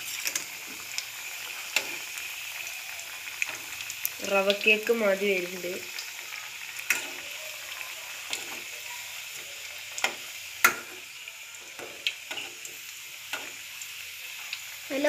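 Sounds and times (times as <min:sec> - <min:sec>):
deep-frying sizzle: 0:00.0 - 0:15.0.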